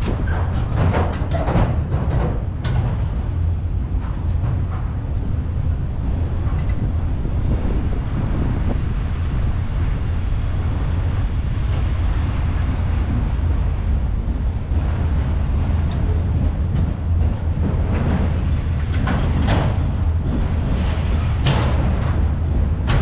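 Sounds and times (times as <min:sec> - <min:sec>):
low rumble of train wheels: 0:00.0 - 0:23.0
rattling freight cars: 0:00.0 - 0:23.0.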